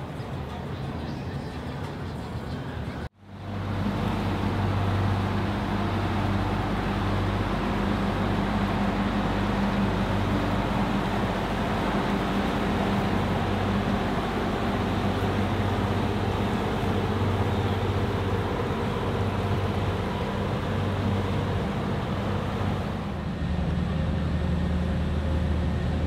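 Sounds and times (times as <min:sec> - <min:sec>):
diesel engine humming: 0:00.0 - 0:26.0
water rushing along hull: 0:03.3 - 0:26.0.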